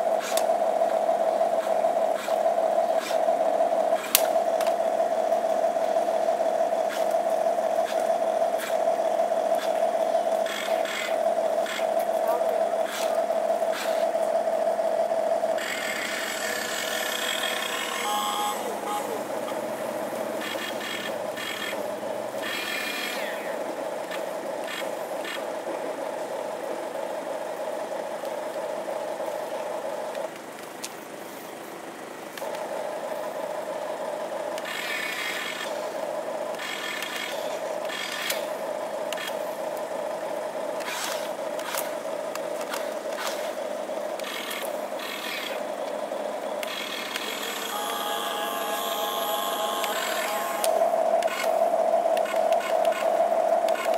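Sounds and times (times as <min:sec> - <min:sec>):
plastic tracks clicking and rattling: 0:00.0 - 0:31.1, 0:33.7 - 0:53.9
toy gear motors whining: 0:00.0 - 0:53.9.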